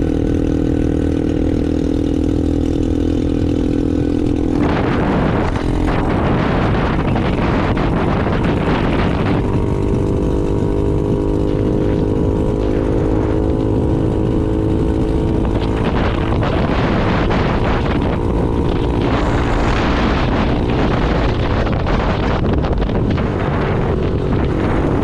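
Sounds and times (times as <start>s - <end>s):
small engine running: 0.0s - 25.0s
wind noise on microphone: 0.0s - 25.0s.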